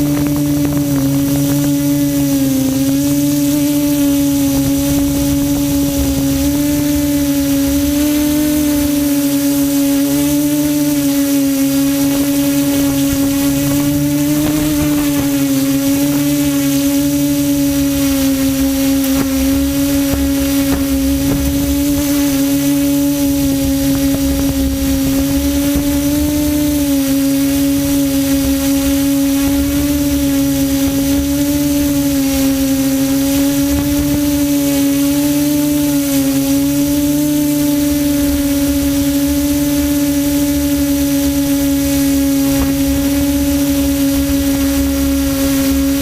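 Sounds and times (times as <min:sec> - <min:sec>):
quadcopter motors humming: 0:00.0 - 0:46.0.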